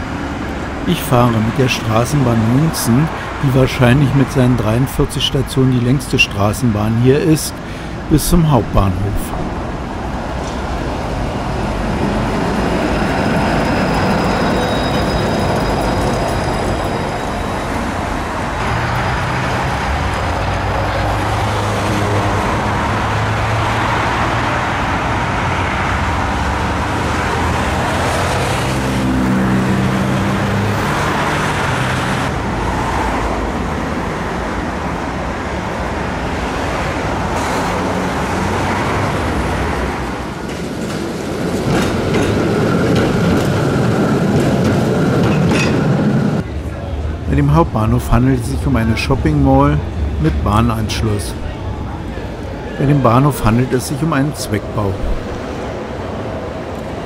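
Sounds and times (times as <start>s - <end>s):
street traffic noise: 0.0s - 57.0s
trams moving on tracks: 0.0s - 57.0s.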